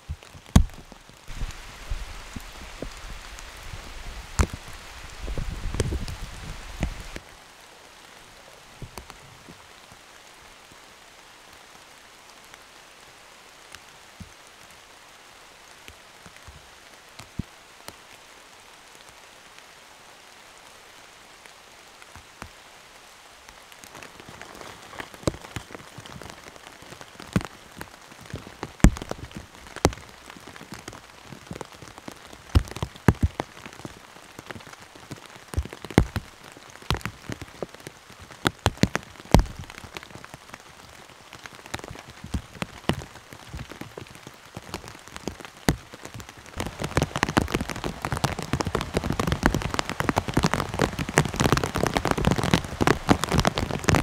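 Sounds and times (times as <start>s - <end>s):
heavy rain hissing: 0.0s - 54.0s
large raindrops landing close: 0.0s - 54.0s.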